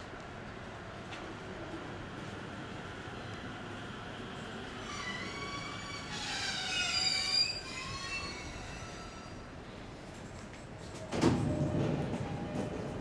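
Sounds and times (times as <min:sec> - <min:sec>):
rush of train noise: 0:00.0 - 0:13.0.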